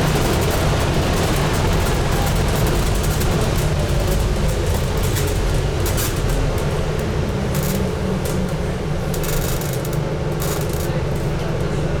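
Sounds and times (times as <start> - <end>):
road and body noise: 0.0 - 11.8
bus engine: 0.0 - 12.0.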